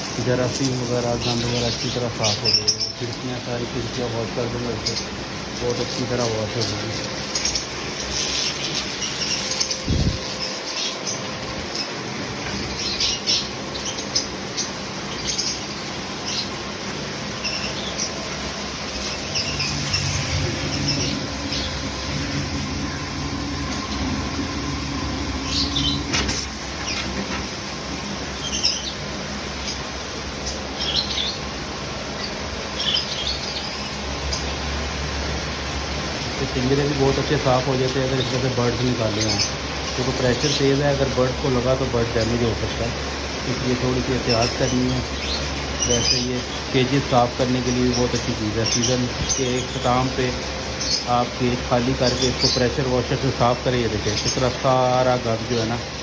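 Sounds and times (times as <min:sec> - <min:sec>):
birds chirping: 0:00.0 - 0:56.0
pressure washer spraying water: 0:00.0 - 0:56.0.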